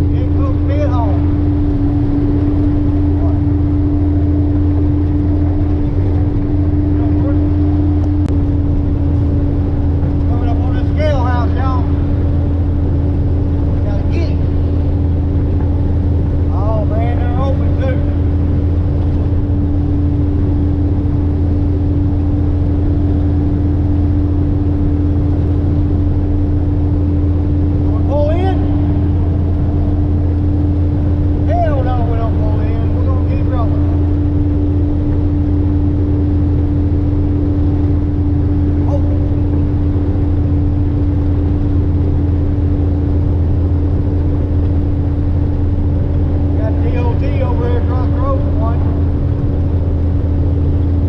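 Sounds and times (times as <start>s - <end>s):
diesel truck engine droning: 0.0s - 51.0s.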